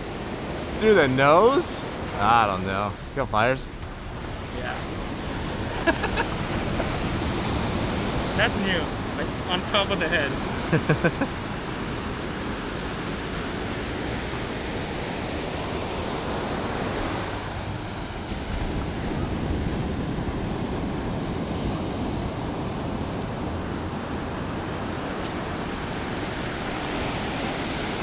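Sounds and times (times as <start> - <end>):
wind buffeting the microphone: 0.0 - 9.6, 11.4 - 28.0
ocean surf washing in: 0.0 - 28.0.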